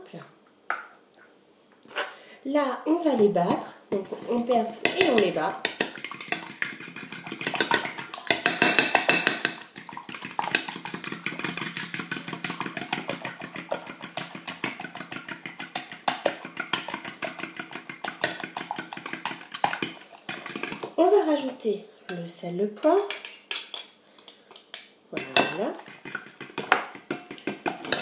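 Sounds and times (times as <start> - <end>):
fork beating eggs in glass bowl: 3.2 - 21.0, 22.9 - 28.0.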